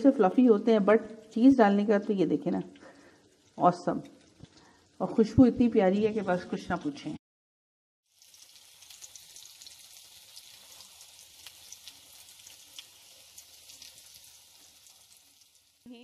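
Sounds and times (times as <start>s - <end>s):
chicken deep-frying in oil: 0.0s - 7.2s, 8.0s - 16.0s
crackles and pops of frying: 0.0s - 7.2s, 8.0s - 16.0s.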